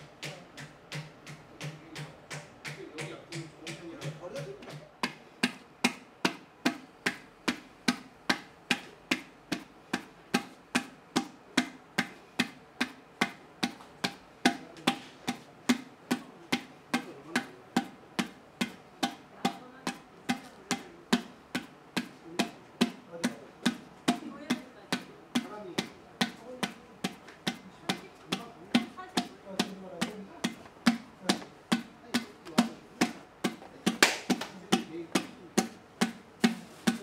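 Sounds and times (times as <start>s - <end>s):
wooden paddle slapping clay jar: 0.0s - 37.0s.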